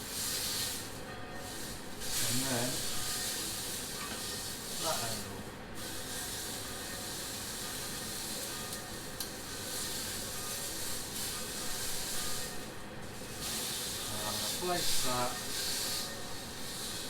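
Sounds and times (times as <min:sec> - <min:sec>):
steak sizzling in a frying pan: 0:00.0 - 0:17.0.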